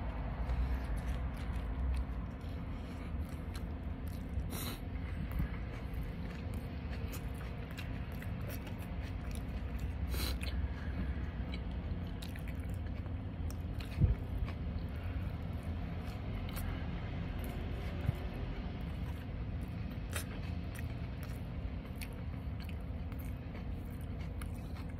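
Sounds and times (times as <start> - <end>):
man chewing pizza: 0.0 - 24.9
steady low hum: 0.0 - 24.9.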